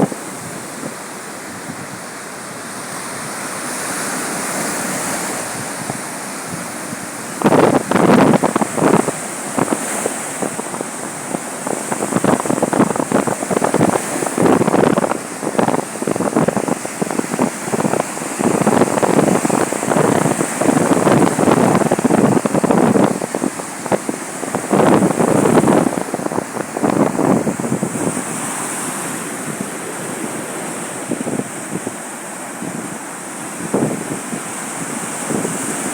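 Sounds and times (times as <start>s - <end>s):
sea surf washing onto beach: 0.0s - 35.9s
wind buffeting microphone: 0.0s - 35.9s.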